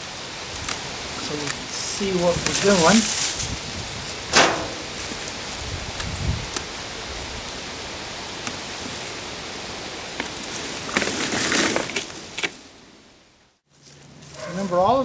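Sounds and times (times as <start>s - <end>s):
vines rustling: 0.0s - 13.0s, 13.6s - 15.0s.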